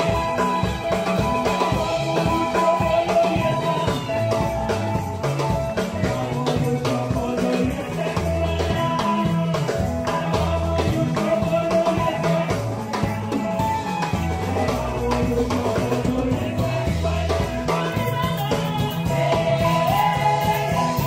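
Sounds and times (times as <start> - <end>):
drum kit and band: 0.0 - 21.0
women singing: 0.1 - 13.0, 13.6 - 21.0.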